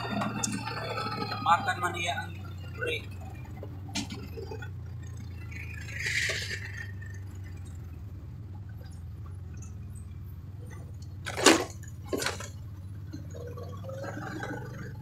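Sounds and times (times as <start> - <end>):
vehicle driving low drone: 0.0 - 15.0.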